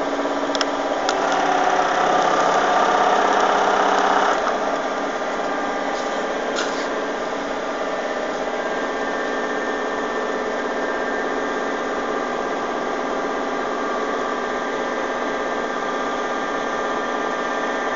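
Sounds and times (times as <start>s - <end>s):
hydraulic pump humming and whining: 0.0s - 17.9s.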